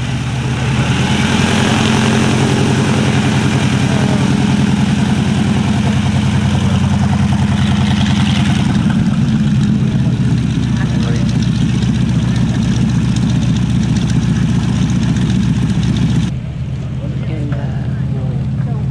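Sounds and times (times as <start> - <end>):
radial aircraft engine running: 0.0 - 18.9.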